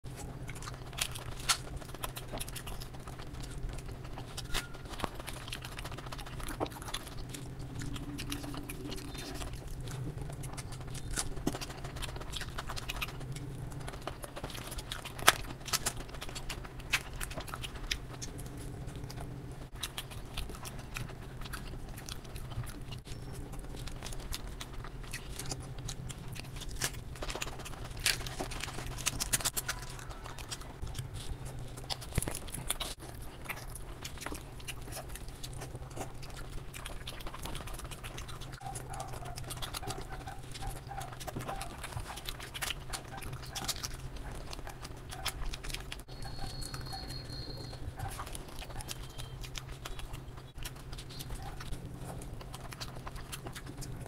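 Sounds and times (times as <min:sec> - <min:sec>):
person chewing food: 0:00.0 - 0:54.0
steady low hum: 0:00.0 - 0:54.0.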